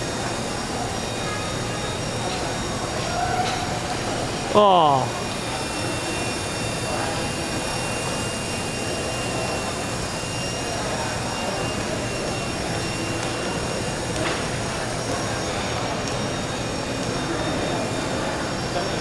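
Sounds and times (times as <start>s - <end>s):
toy helicopter rotors whirring: 0.0s - 19.0s.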